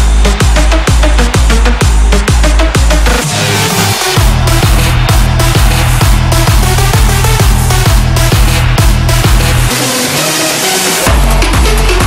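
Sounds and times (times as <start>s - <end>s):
heavy kick drum: 0.0s - 9.7s, 11.1s - 12.0s
electronic dance music: 0.0s - 12.0s.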